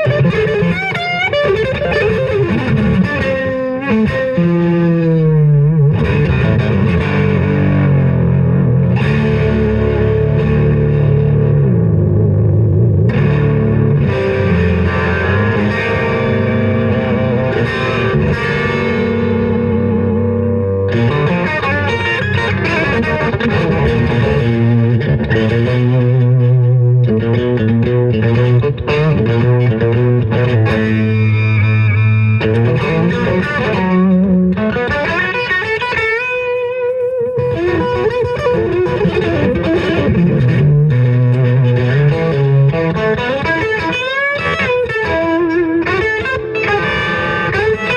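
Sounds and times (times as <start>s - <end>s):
distorted electric guitar bending notes: 0.0s - 47.9s.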